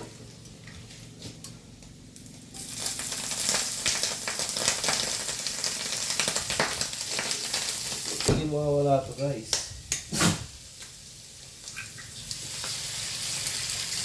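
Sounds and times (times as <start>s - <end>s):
mushrooms sizzling in hot oil: 2.3s - 14.0s.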